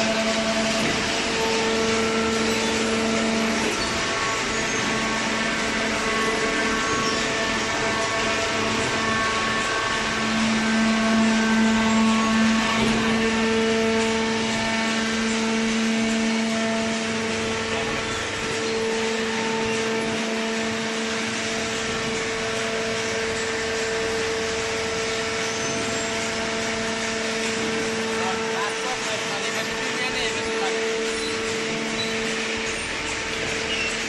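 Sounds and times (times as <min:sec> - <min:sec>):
hydraulic baler droning: 0:00.0 - 0:34.0.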